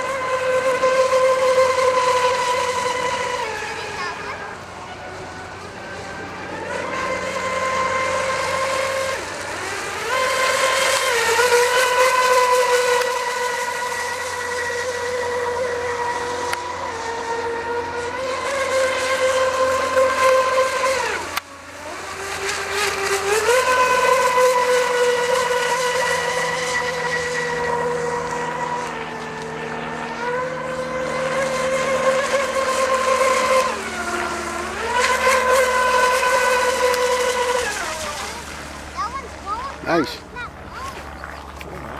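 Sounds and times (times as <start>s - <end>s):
high-pitched motor whine: 0.0s - 41.9s.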